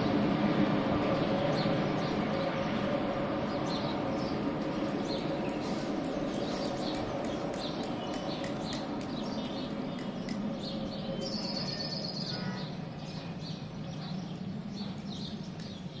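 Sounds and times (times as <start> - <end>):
birds chirping: 1.0 - 16.0.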